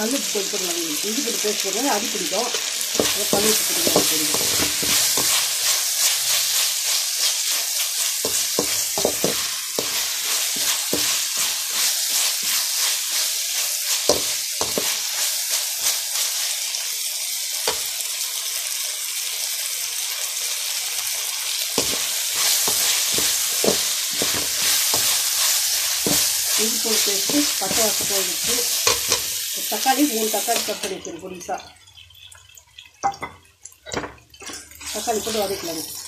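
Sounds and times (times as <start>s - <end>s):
onions sizzling in oil: 0.0s - 36.0s.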